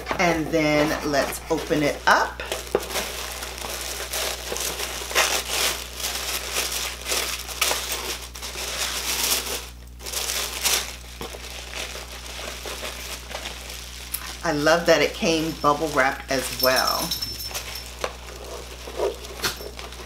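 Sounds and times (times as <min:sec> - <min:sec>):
bubble wrap and packaging crinkling: 0:00.0 - 0:20.0.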